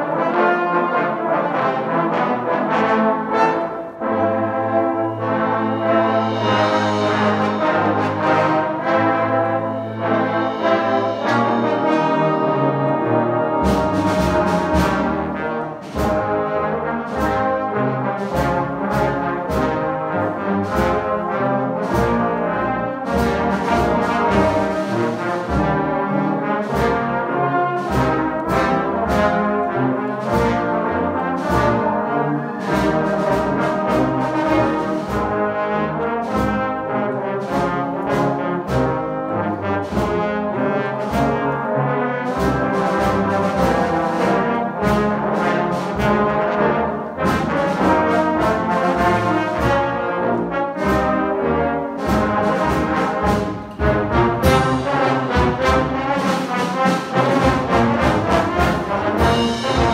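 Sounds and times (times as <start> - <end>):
trombone choir playing: 0.0 - 59.9.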